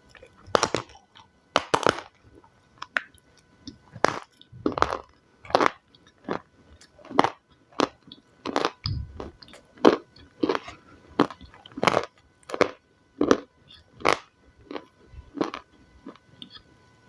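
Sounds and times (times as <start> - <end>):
crunchy chewing of salad: 0.0 - 16.6.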